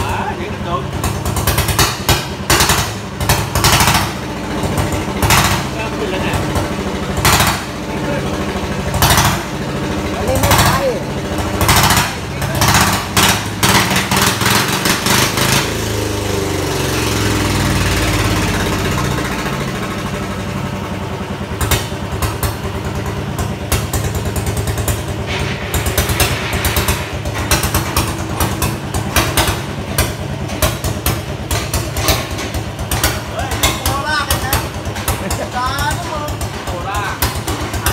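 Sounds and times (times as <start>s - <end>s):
tractor engine running: 0.0s - 37.9s
sharp engine knocks: 1.0s - 15.8s, 21.5s - 37.9s.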